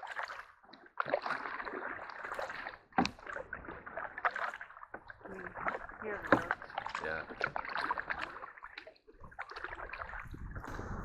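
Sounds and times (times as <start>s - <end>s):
paddle swishing in water: 0.0s - 11.0s.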